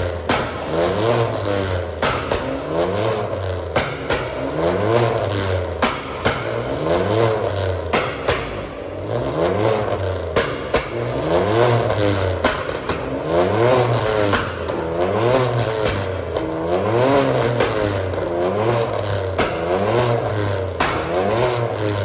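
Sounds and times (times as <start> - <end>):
car engine revving: 0.0 - 22.0
exhaust pops: 0.0 - 22.0.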